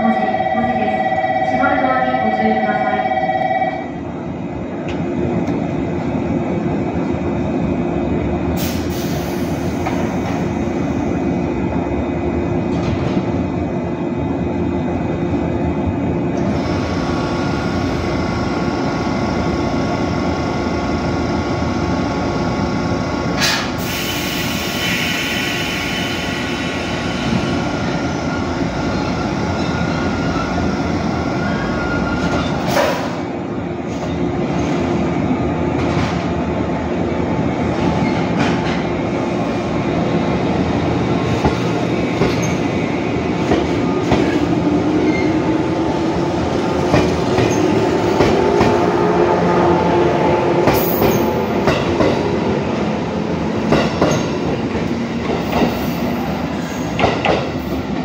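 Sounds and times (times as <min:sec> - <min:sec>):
electric train humming: 0:00.0 - 0:32.6, 0:33.2 - 0:58.0.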